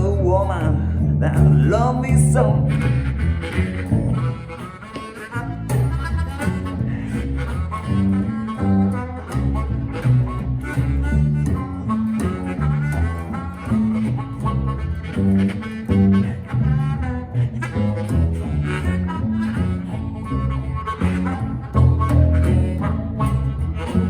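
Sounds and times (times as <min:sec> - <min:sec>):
bass line: 0:00.0 - 0:24.0
blues harmonica wailing: 0:00.0 - 0:24.0.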